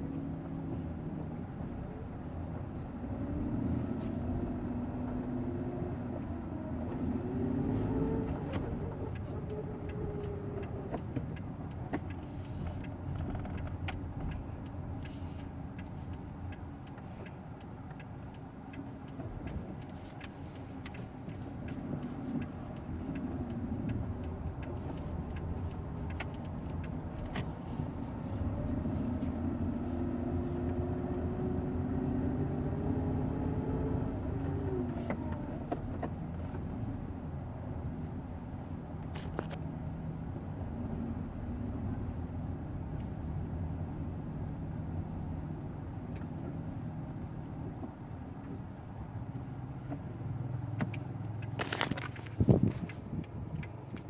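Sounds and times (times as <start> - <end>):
car engine with grinding noise: 0.0 - 54.0.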